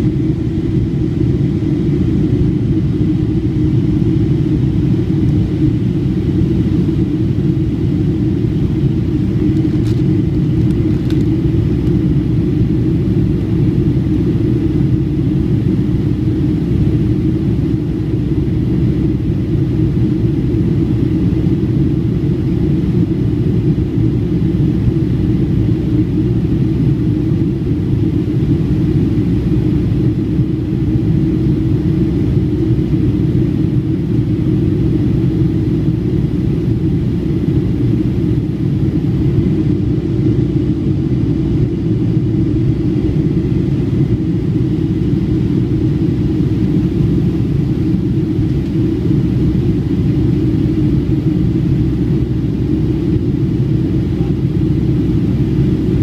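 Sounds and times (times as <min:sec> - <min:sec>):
jet cabin roar: 0:00.0 - 0:56.0.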